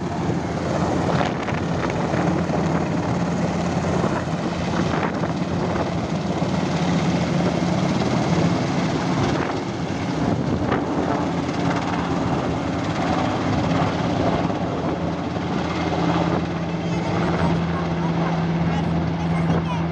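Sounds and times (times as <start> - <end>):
helicopter rotors and turbines: 0.0 - 19.9.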